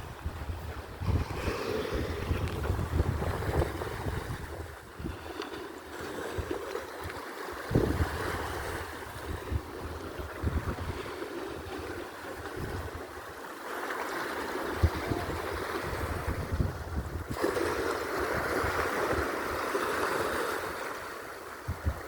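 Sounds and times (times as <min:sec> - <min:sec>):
sea water lapping: 0:00.0 - 0:22.0
water splashes: 0:00.6 - 0:22.0.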